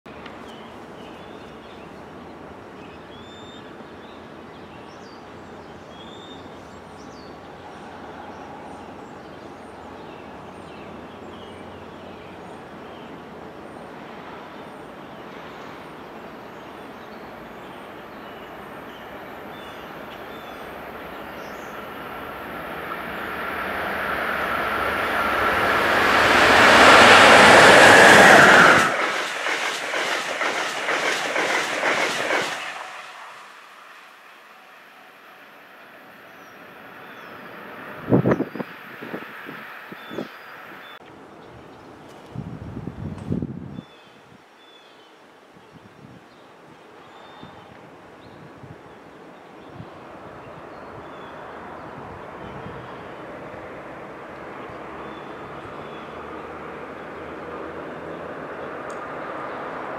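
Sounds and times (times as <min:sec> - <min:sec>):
train passing at speed: 0:00.1 - 0:41.0, 0:49.3 - 0:59.9.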